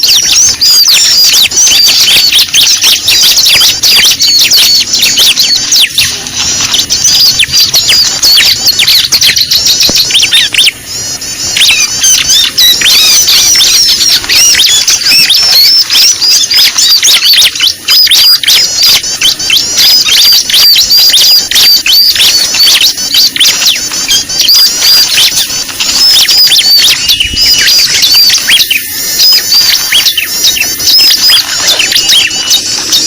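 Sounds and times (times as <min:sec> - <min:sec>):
small birds chattering and chirping: 0:00.0 - 0:33.0.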